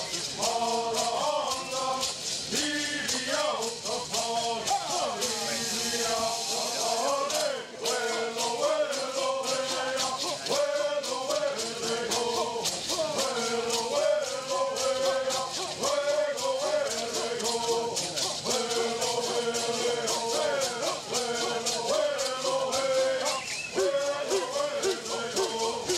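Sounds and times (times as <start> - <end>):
hand rattles shaking: 0.0 - 25.9
men singing in unison: 0.0 - 25.9.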